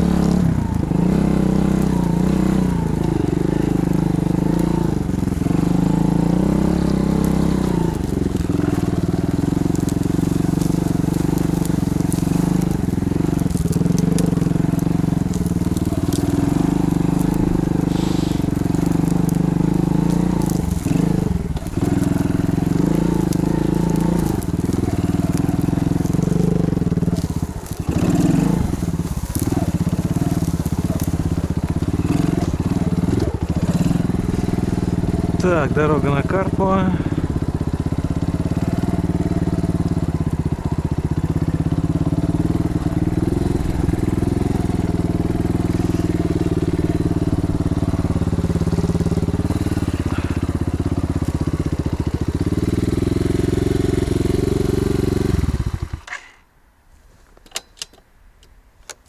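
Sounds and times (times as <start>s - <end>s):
crackling clicks: 0.0s - 56.4s
motorbike engine revving: 0.0s - 56.4s.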